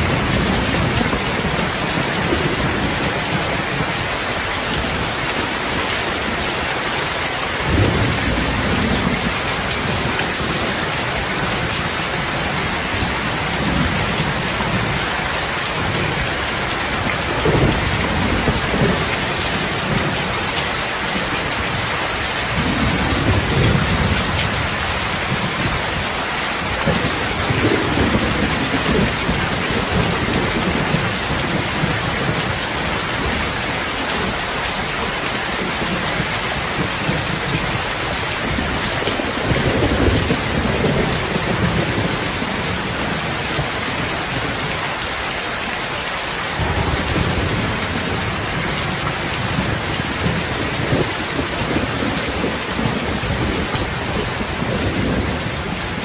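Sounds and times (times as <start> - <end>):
heavy rain falling: 0.0 - 56.0
low thunder rumbling: 7.6 - 44.7, 46.5 - 56.0.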